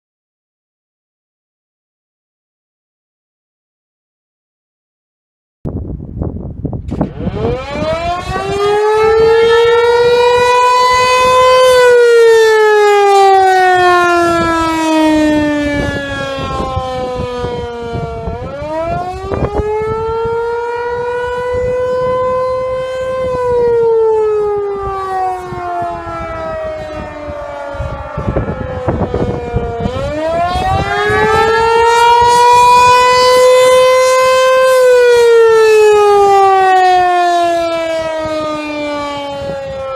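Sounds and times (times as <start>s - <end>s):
warning siren wailing: 6.9s - 39.9s.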